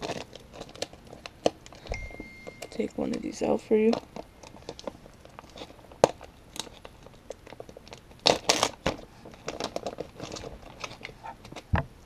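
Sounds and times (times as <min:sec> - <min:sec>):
plastic pouch crinkling: 0:00.0 - 0:11.7.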